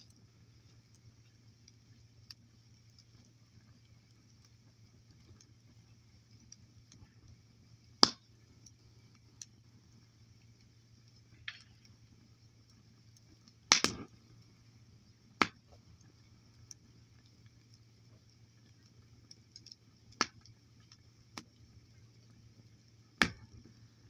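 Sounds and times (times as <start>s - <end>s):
faint low hum: 0.0s - 24.0s
wood fire crackling: 0.0s - 24.0s.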